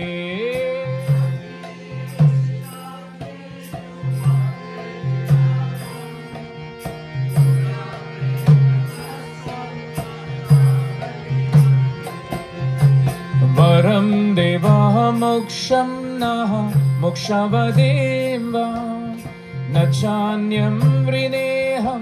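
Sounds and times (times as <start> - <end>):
harmonium chords: 0.0 - 22.0.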